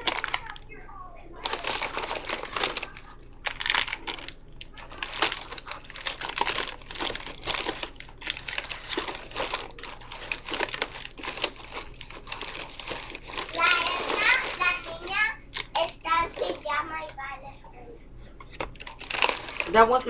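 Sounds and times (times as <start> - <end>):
plastic bag crinkling: 0.0 - 0.7, 1.4 - 16.8, 18.5 - 20.0.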